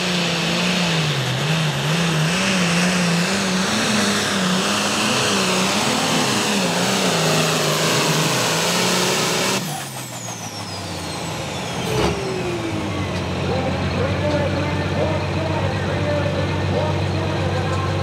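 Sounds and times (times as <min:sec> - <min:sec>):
high whines: 0:00.0 - 0:17.8
diesel tractor engine under load: 0:00.0 - 0:18.0.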